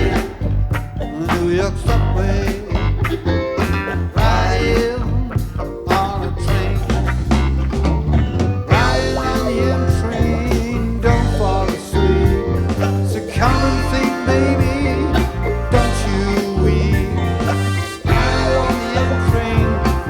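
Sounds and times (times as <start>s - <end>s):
bass guitar: 0.0s - 20.0s
drum kit with percussion: 0.0s - 20.0s
electric guitars: 0.0s - 20.0s
keyboard: 0.0s - 20.0s.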